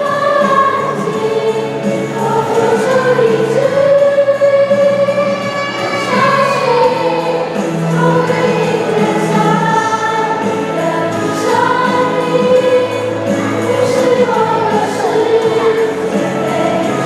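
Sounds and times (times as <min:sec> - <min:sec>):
choir singing slow song: 0:00.0 - 0:17.0.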